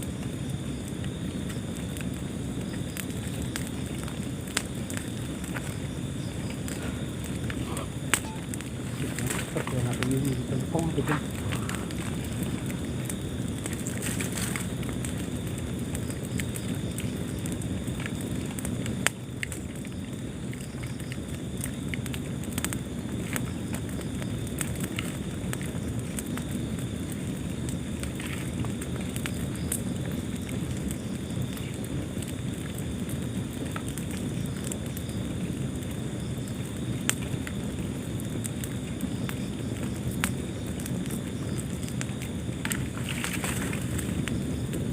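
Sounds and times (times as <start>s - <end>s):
fire crackling and popping: 0.0s - 44.9s
low rumble of flames: 0.0s - 44.9s
wood fire burning: 0.0s - 44.9s.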